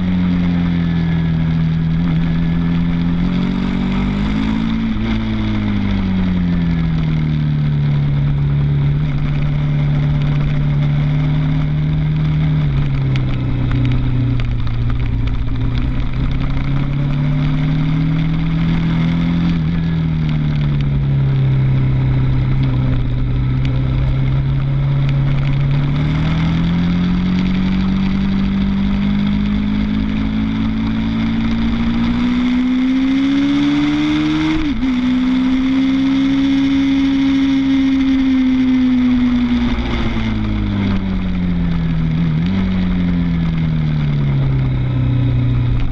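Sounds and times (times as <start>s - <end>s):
motorcycle engine at speed: 0.0s - 45.9s.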